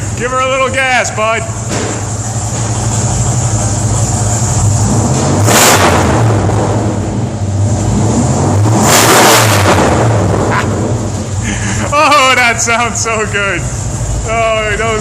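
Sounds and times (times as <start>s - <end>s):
engine idling: 0.0s - 8.7s, 9.8s - 15.0s
engine throttle blips: 0.0s - 15.0s.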